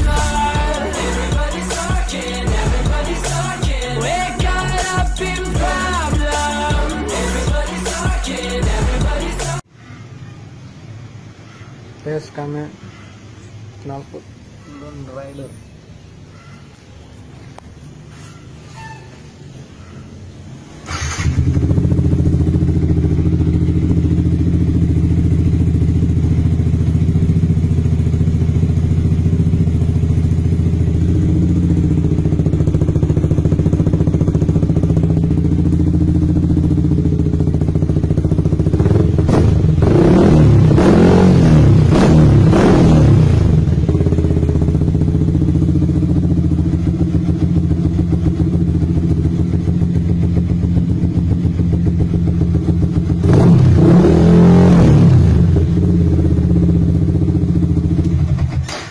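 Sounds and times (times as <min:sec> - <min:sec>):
motorcycle engine idling and revving: 0:00.0 - 0:09.7, 0:12.1 - 0:58.9.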